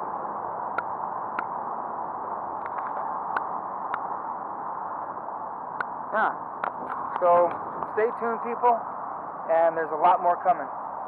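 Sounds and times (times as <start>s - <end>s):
open-air background hiss: 0.0s - 11.0s.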